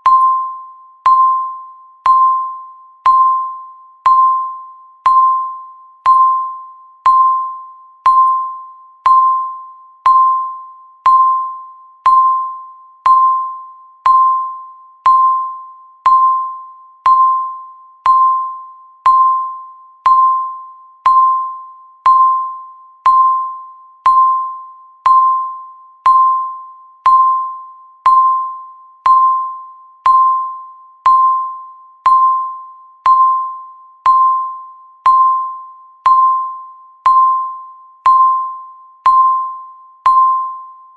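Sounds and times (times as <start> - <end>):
countdown timer beep: 0.0 - 40.9.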